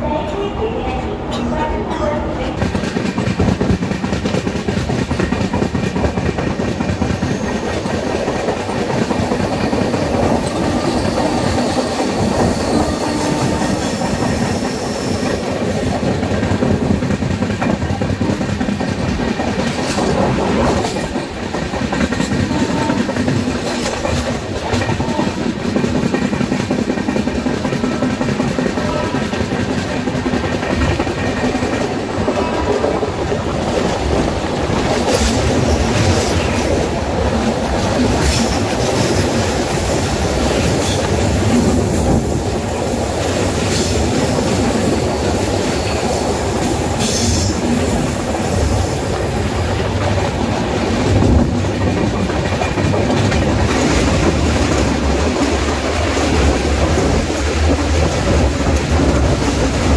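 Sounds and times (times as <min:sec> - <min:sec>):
train crossing steel bridge: 0:00.0 - 0:59.9
train wheels rolling on rails: 0:00.0 - 0:59.9.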